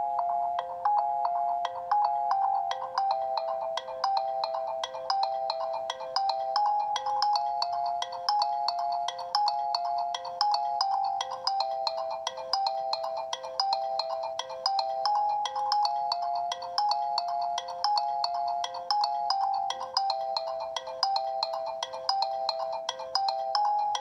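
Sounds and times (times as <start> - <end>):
electronic phone ringtone melody: 0.0 - 24.0.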